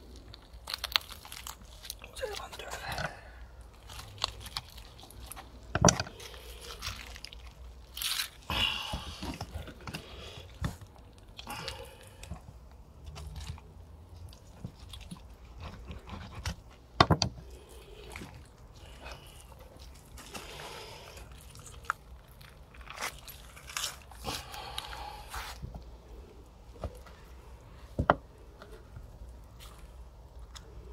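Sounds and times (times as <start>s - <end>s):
wet crunching and tearing of meat: 0.0s - 27.3s.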